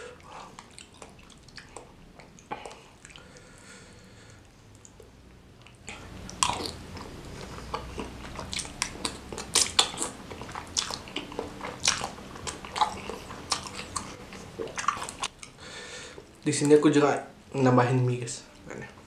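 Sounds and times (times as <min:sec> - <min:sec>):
person chewing noodles: 0:00.0 - 0:16.4.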